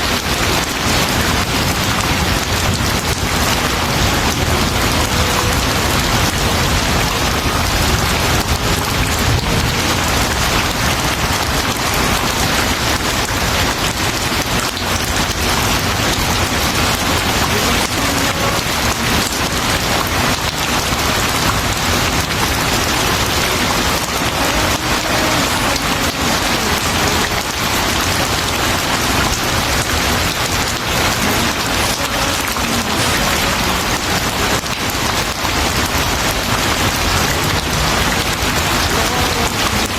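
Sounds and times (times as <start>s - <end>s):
loud rain falling: 0.0s - 39.9s.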